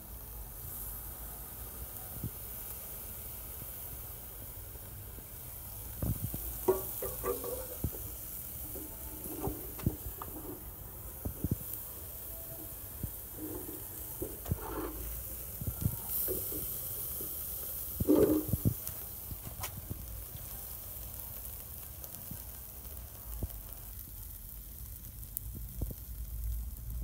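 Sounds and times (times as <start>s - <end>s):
chicken sizzling over fire: 0.0s - 27.0s
small crackles: 0.7s - 27.0s.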